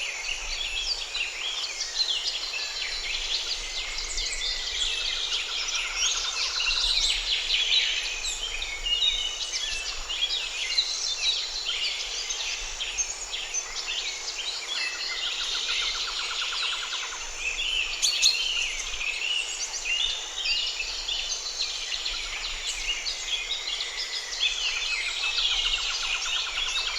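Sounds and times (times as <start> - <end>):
songbirds chirping and whistling: 0.0 - 26.9.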